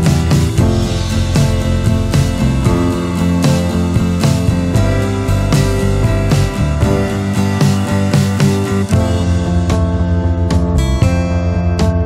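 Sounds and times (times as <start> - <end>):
acoustic guitar strummed and plucked: 0.0 - 12.0.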